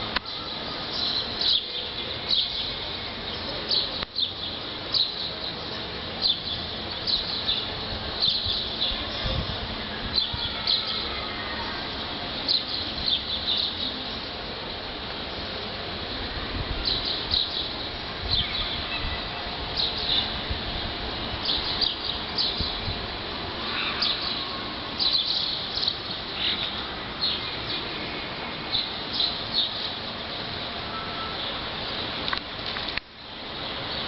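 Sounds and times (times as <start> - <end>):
small birds chirping: 0.2 - 14.5, 15.3 - 20.5, 21.3 - 28.1, 28.7 - 32.4.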